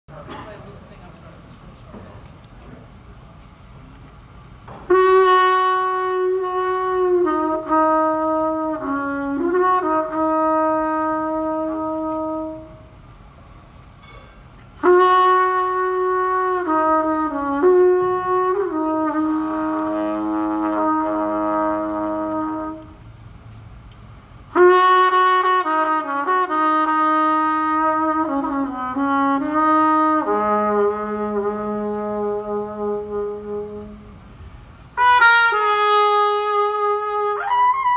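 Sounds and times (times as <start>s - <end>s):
jazz trumpet melody: 4.7s - 13.3s, 14.7s - 23.5s, 24.4s - 37.9s.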